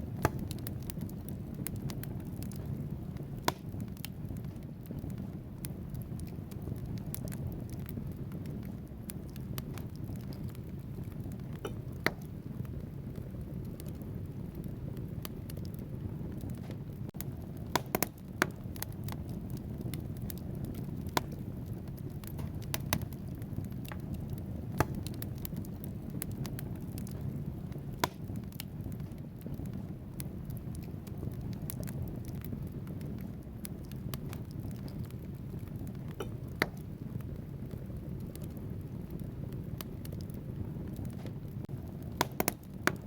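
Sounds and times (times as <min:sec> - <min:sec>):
logs crackling and popping: 0:00.0 - 0:43.0
low rumble of flames: 0:00.0 - 0:43.0.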